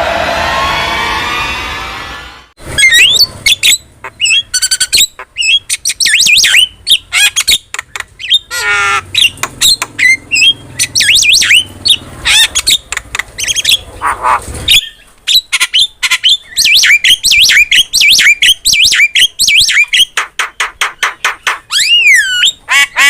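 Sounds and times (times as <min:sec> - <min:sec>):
myna bird singing: 0:02.8 - 0:23.0.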